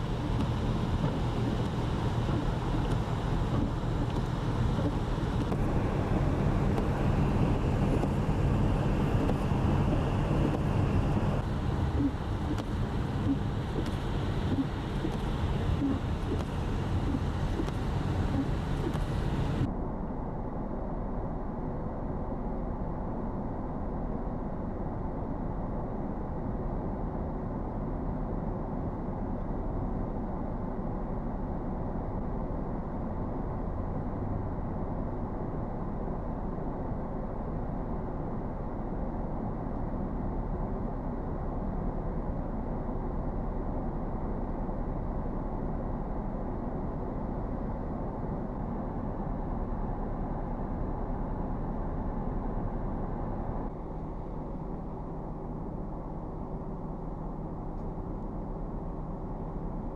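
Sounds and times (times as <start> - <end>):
vehicle driving on road: 0.0 - 59.9.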